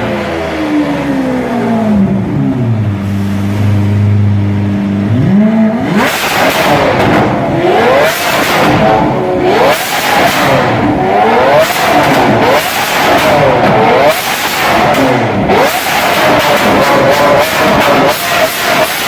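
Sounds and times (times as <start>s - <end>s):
sports car engine idling and revving: 0.0s - 19.0s.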